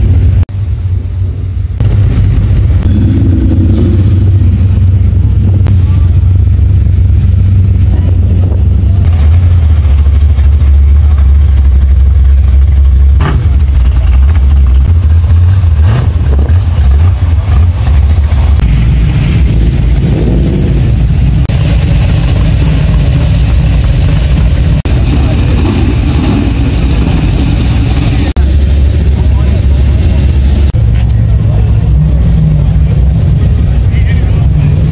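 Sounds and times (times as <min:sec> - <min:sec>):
car engines idling: 0:00.0 - 0:34.9.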